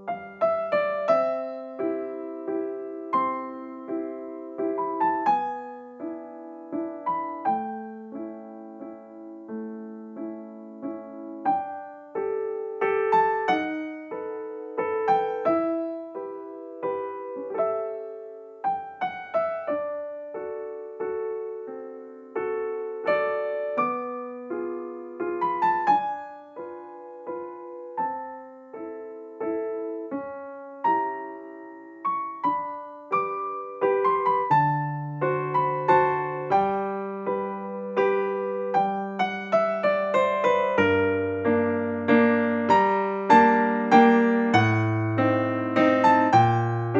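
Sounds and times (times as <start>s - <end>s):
soft piano melody: 0.0s - 46.9s.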